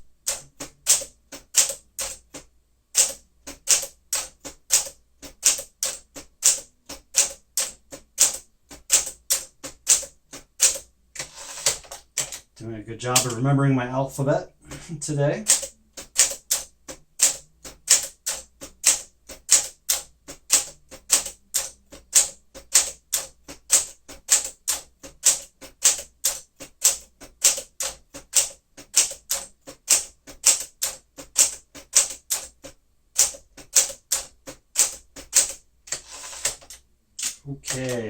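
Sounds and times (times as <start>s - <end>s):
manual typewriter key strikes: 0.2s - 13.4s, 15.4s - 38.0s.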